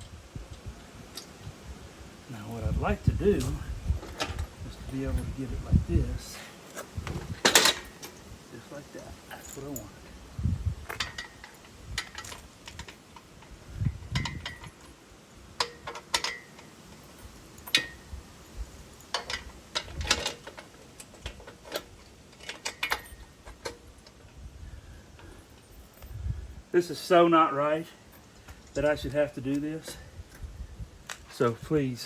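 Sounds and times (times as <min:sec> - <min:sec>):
metal tools clinking: 0:02.3 - 0:10.2, 0:10.8 - 0:24.4, 0:25.1 - 0:26.2, 0:27.7 - 0:31.6.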